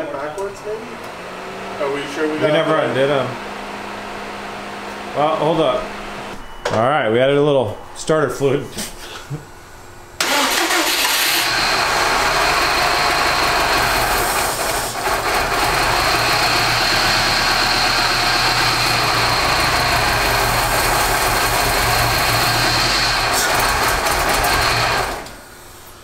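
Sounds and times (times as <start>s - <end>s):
car engine starting and running: 0.0s - 6.4s, 10.2s - 25.7s.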